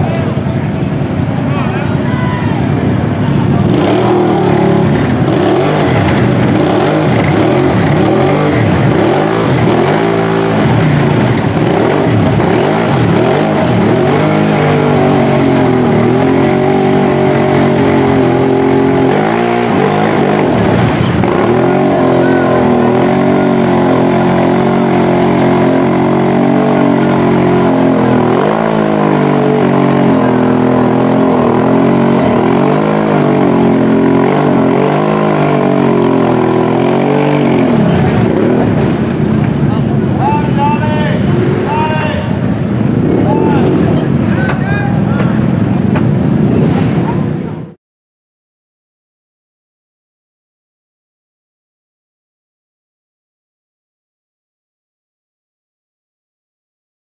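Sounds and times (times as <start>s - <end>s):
tires spinning through mud: 0.0s - 47.5s
atv engine revving: 0.0s - 47.7s.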